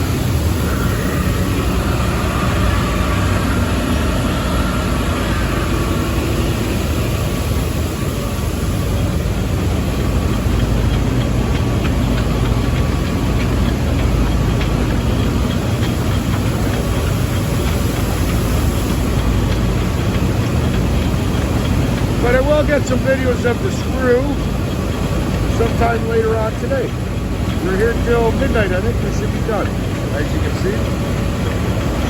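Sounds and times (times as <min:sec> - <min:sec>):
unloading machinery rumbling: 0:00.0 - 0:32.0.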